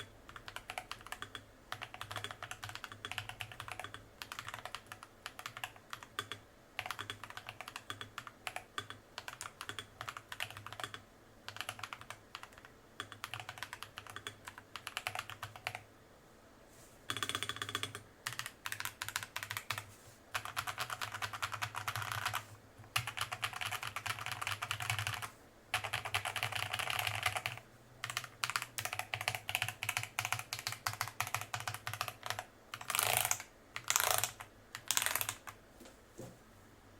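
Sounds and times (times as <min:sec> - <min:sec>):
mechanical keyboard typing: 0:00.0 - 0:15.8, 0:17.1 - 0:35.6.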